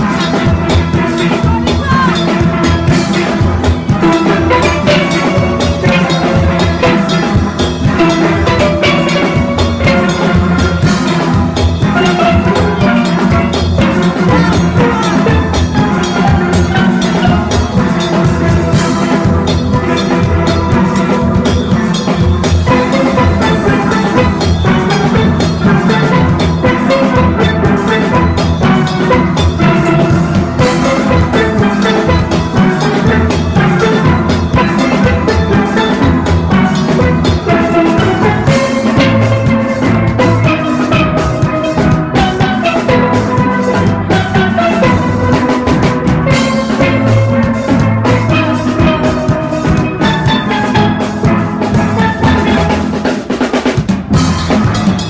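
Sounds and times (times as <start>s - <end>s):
drum kit and percussion beat: 0.0s - 55.0s
steelpans playing melody: 0.0s - 55.0s.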